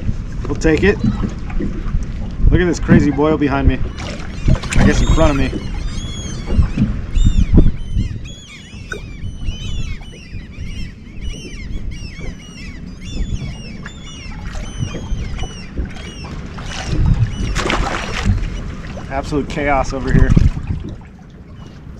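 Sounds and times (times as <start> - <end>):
low rumble of wind and water: 0.0 - 21.9
seabirds calling: 0.6 - 20.2, 21.4 - 21.9.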